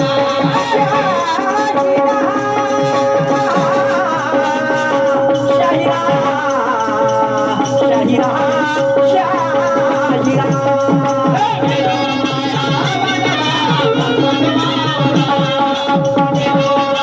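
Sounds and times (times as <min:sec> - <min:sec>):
rattling percussion: 0:00.0 - 0:17.0.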